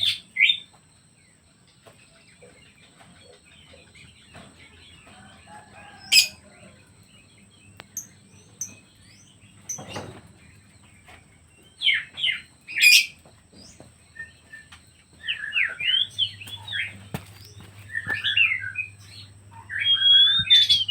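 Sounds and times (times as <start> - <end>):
pet birds chirping: 0.0 - 20.9.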